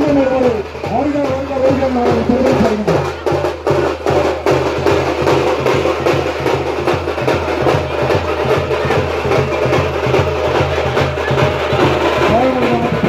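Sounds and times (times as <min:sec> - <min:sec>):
frame drums beaten fast: 0:00.0 - 0:13.0.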